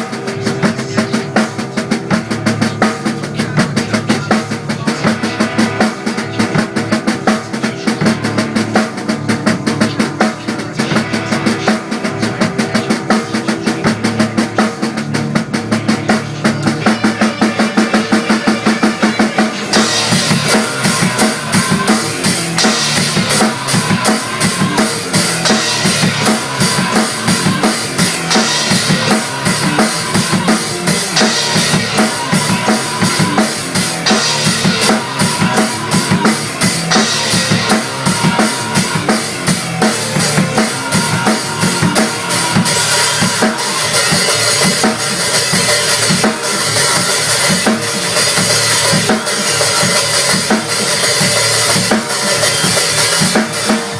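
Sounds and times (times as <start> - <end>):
drum kit played hard: 0.0 - 53.9
loud rock music: 0.0 - 53.9.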